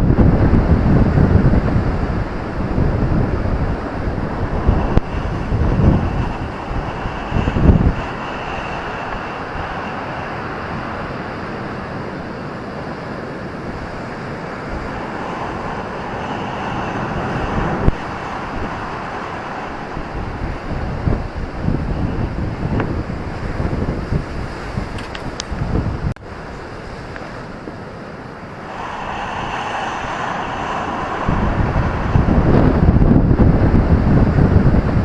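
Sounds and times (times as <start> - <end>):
ocean surf washing onto beach: 0.0 - 35.0
wind buffeting microphone: 0.0 - 35.0.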